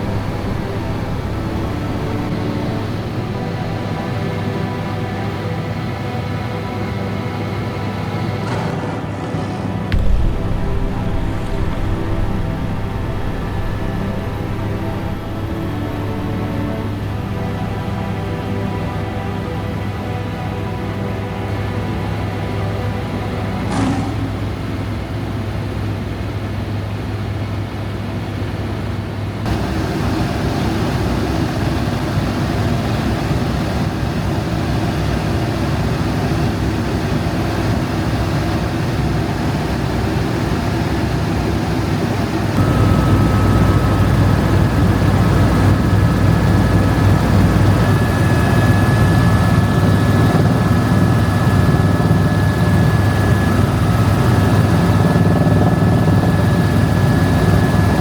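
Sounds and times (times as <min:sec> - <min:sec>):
helicopter engine and rotor: 0:00.0 - 0:58.0.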